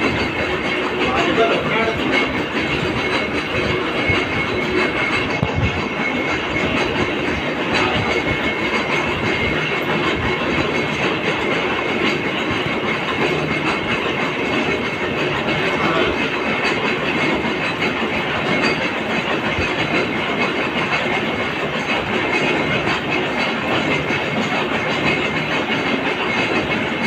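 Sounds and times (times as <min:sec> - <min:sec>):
metalworking machine running: 0:00.0 - 0:27.0.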